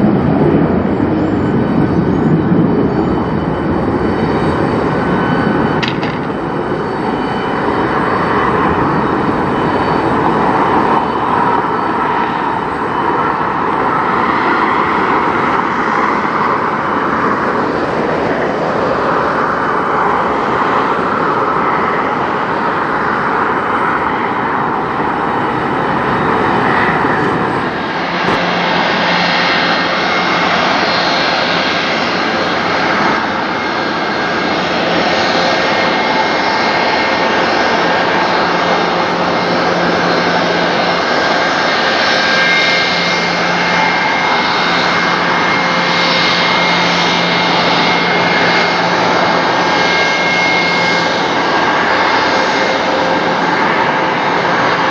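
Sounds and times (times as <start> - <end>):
jet engines at takeoff thrust: 0.0 - 54.9.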